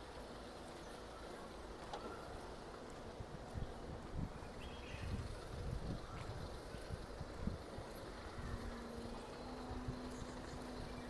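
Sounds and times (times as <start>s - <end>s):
distant traffic hum: 0.0s - 11.0s.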